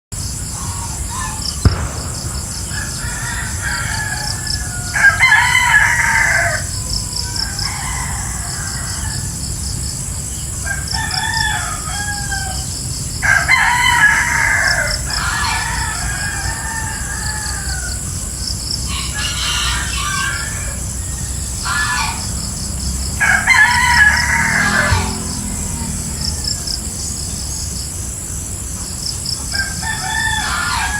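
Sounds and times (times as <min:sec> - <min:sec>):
pulsing insect chorus: 0:00.2 - 0:30.9
roosters crowing: 0:00.4 - 0:30.9.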